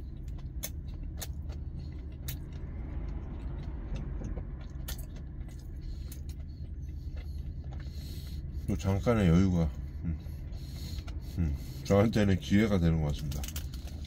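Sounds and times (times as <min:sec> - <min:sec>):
chewing crackles: 0:00.0 - 0:14.0.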